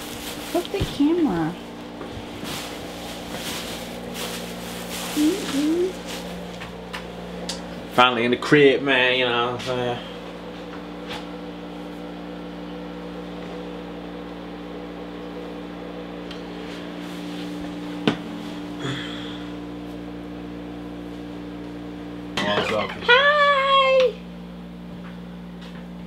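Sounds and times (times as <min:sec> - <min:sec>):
kitchen appliance humming: 0:00.0 - 0:26.0.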